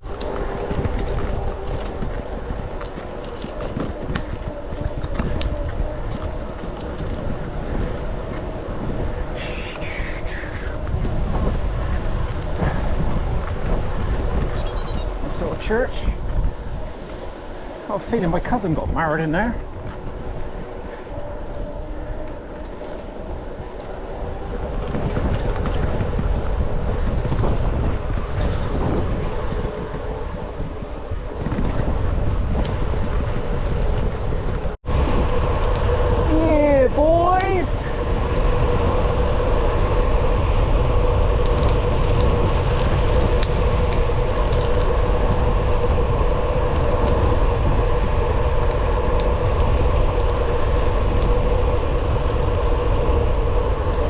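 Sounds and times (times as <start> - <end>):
bicycle tyre and road noise: 0.0 - 54.0
wind buffeting microphone: 0.0 - 54.0.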